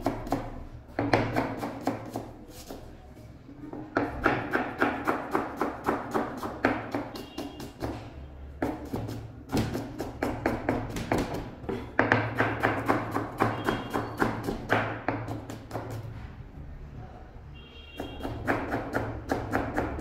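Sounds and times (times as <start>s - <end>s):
knife chopping on plastic board: 0.0s - 2.9s, 3.9s - 16.1s, 18.0s - 20.0s.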